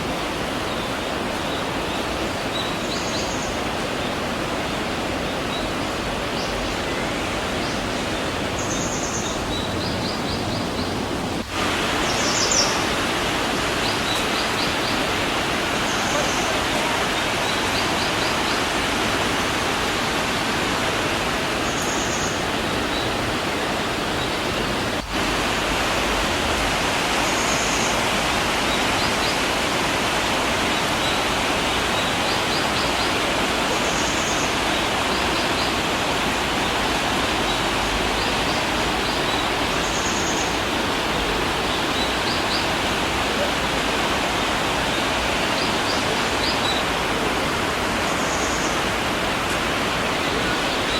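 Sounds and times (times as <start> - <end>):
river water rushing over rocks: 0.0 - 50.9.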